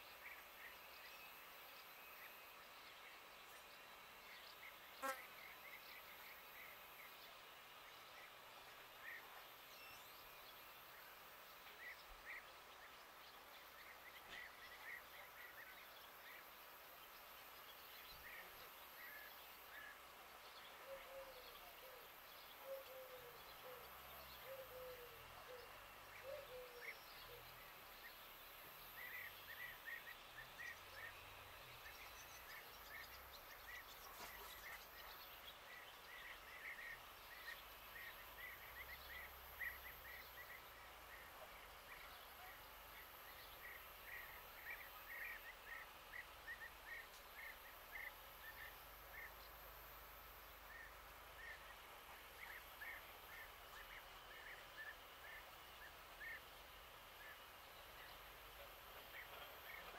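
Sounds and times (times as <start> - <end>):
distant birds chirping: 0.0 - 59.9.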